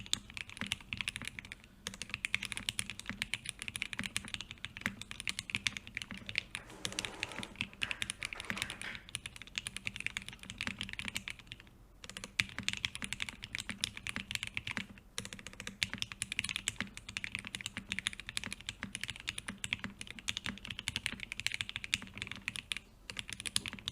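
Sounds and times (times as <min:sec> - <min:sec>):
mechanical keyboard typing: 0:00.0 - 0:23.9.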